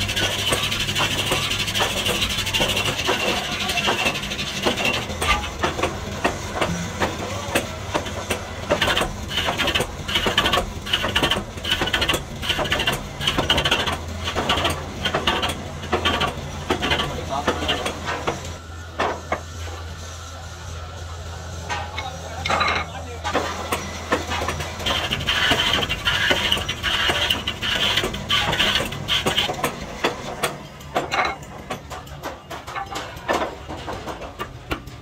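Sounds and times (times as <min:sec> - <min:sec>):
lathe motor hum: 0:00.0 - 0:22.4, 0:23.4 - 0:31.0.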